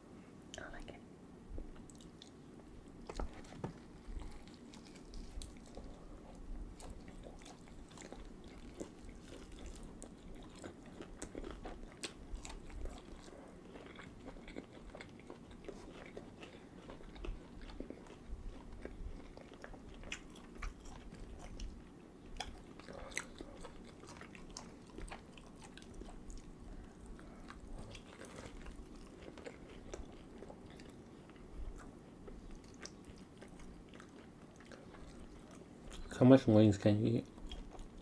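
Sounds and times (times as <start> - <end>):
chewing and biting food: 1.7 - 36.4, 37.0 - 38.0.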